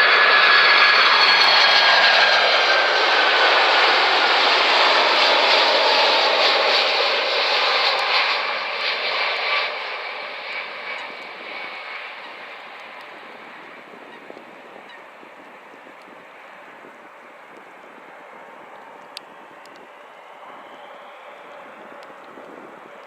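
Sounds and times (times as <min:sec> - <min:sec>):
jet airliner engines roaring past: 0:00.0 - 0:23.0.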